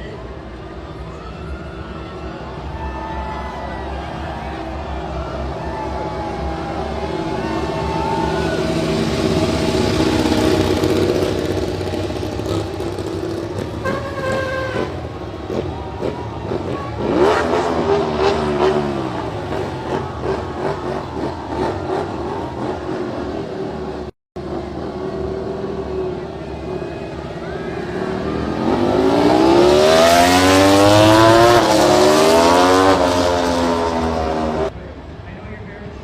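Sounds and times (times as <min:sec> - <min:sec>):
motorcycle engines revving: 0:02.8 - 0:35.2.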